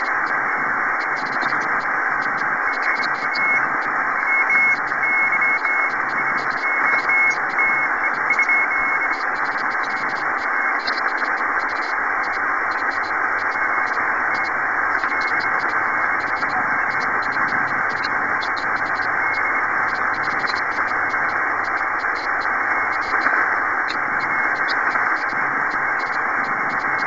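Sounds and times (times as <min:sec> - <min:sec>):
radio band noise hiss: 0:00.0 - 0:27.0
morse code tone: 0:01.4 - 0:27.0.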